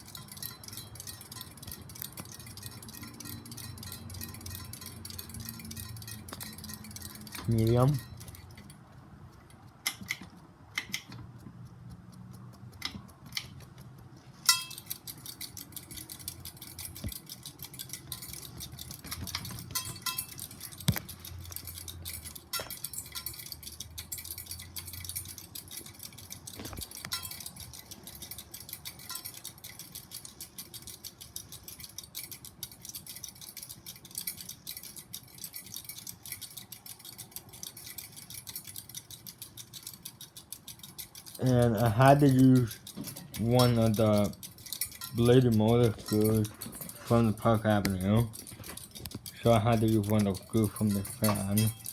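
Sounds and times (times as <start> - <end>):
light ticking and rattling: 0.0 - 51.9
sharp clicks: 0.0 - 51.9.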